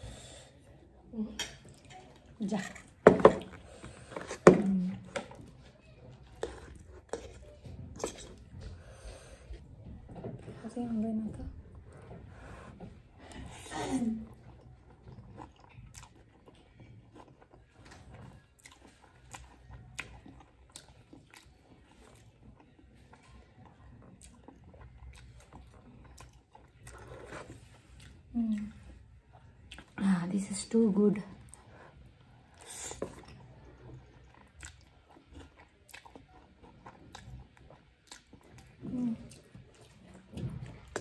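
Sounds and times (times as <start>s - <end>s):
person slurping and chewing noodles: 2.9s - 9.7s, 11.8s - 28.3s, 31.4s - 41.0s.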